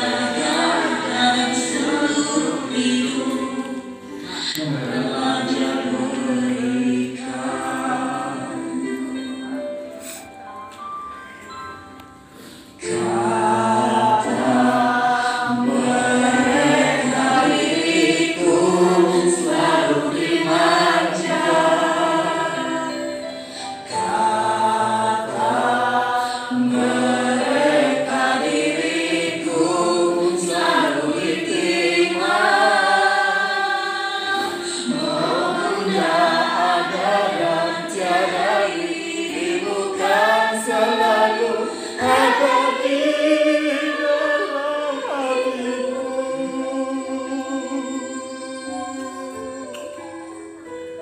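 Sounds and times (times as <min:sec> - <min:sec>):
group singing slow song: 0:00.0 - 0:10.3, 0:12.4 - 0:50.4.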